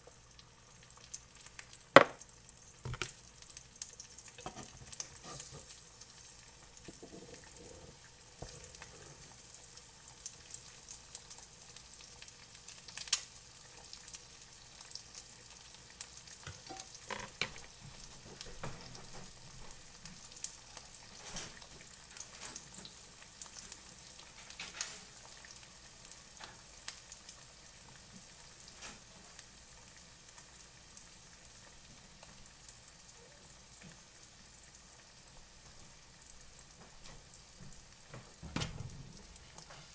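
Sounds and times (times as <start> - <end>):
eggs sizzling in grease: 0.0 - 39.9.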